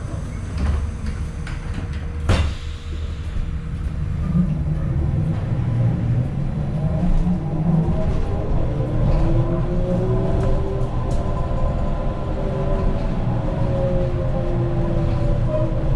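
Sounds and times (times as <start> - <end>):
bus cabin rumble: 0.0 - 15.9.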